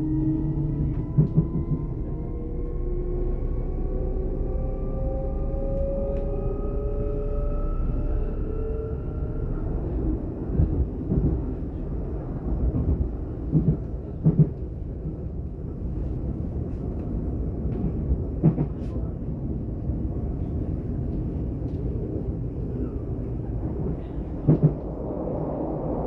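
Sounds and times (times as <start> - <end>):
train running gear rumble: 0.0 - 26.0.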